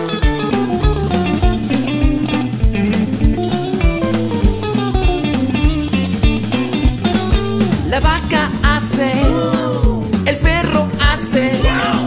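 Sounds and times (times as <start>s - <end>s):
guitar-led band music: 0.0s - 12.0s
steady drum beat: 0.0s - 12.0s.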